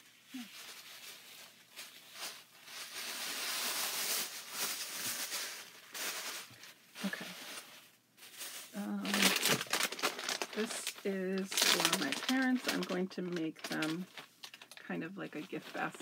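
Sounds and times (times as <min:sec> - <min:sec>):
packaging rustling: 0:00.0 - 0:16.0.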